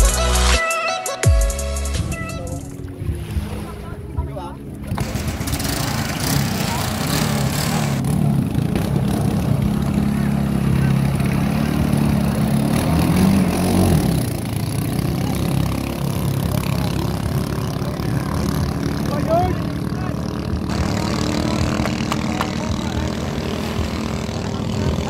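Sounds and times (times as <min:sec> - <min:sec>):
boat engines revving hard: 0:02.4 - 0:25.0.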